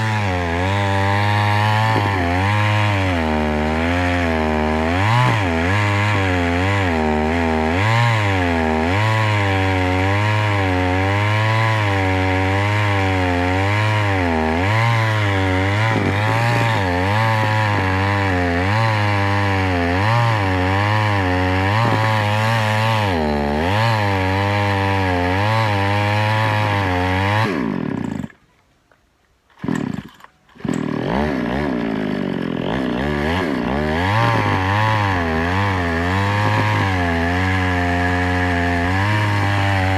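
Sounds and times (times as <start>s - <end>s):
chainsaw running: 0.0s - 28.5s, 29.5s - 39.9s.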